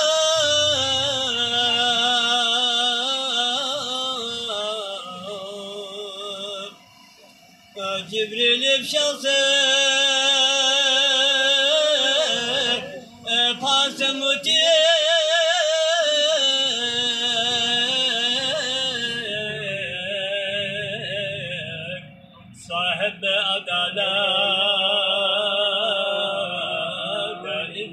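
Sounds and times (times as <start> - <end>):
man singing unaccompanied: 0.0 - 6.8, 7.8 - 27.9.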